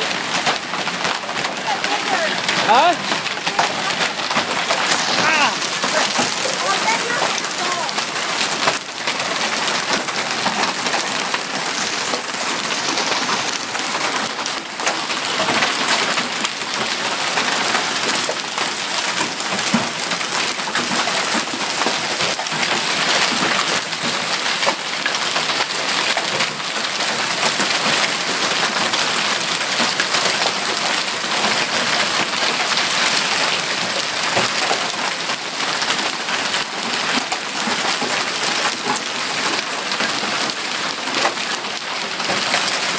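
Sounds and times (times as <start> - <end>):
hail and rain pelting down: 0.0 - 42.9.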